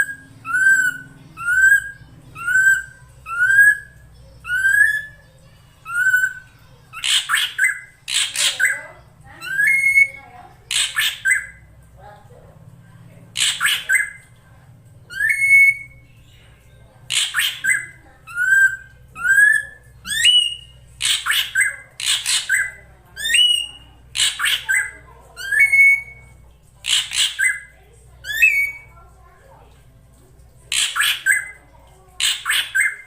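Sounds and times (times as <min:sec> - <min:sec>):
bird harsh rasping squawks: 0:00.0 - 0:11.7, 0:13.3 - 0:14.3, 0:17.1 - 0:29.0, 0:30.7 - 0:33.0.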